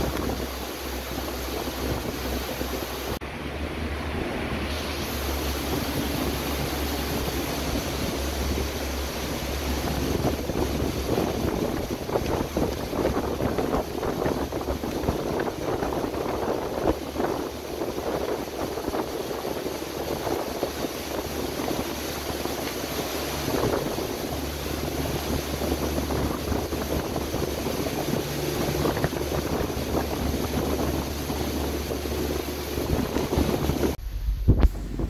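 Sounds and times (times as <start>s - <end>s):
waterfall rushing: 0.0s - 34.0s
boat engine hum: 0.0s - 35.0s.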